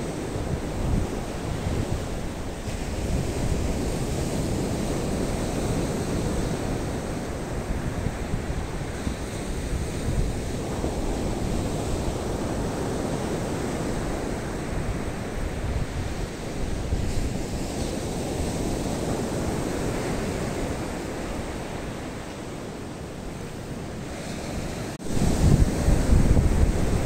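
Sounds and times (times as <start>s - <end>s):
surf breaking on a beach: 0.0s - 27.0s
wind rumbling on microphone: 0.0s - 27.0s.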